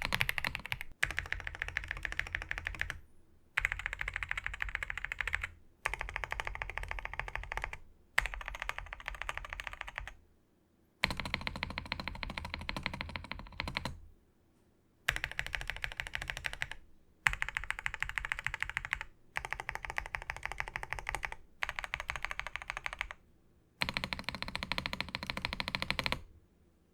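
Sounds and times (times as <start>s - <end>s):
fast typing on mechanical keyboard: 0.0s - 3.0s, 3.6s - 10.2s, 11.0s - 14.0s, 15.1s - 23.2s, 23.8s - 26.3s.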